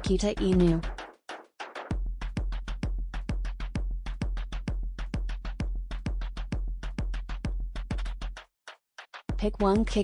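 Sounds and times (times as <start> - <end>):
drum machine kick beat: 0.0 - 10.0
electronic music: 0.0 - 10.0.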